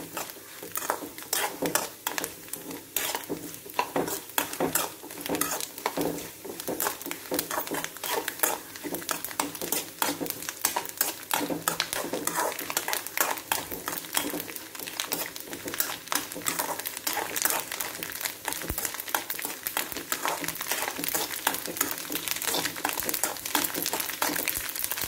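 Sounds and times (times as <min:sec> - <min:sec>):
metal spoon scraping pan: 0:00.0 - 0:17.9, 0:19.1 - 0:24.5
light sizzle: 0:00.0 - 0:25.0.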